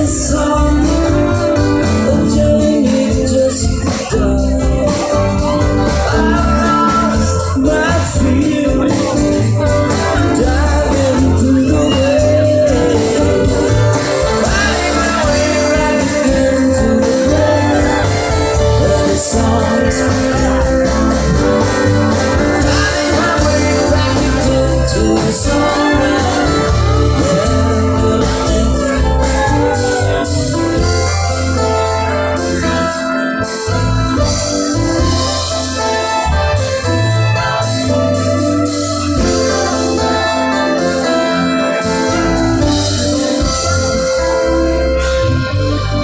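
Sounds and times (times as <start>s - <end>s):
live band playing: 0.0s - 46.0s
person singing: 0.0s - 46.0s.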